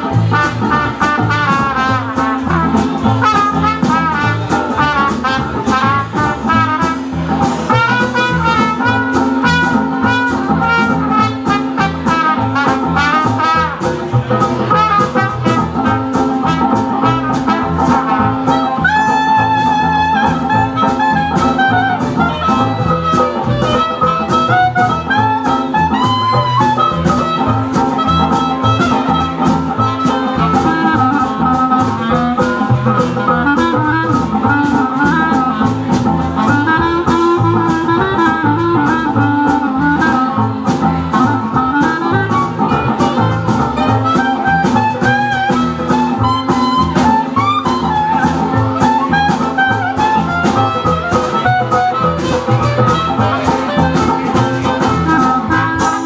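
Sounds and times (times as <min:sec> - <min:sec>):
brass lines: 0:00.0 - 0:56.0
clarinet: 0:00.0 - 0:56.0
strummed rhythm instrument: 0:00.0 - 0:56.0
upright double bass: 0:00.0 - 0:56.0.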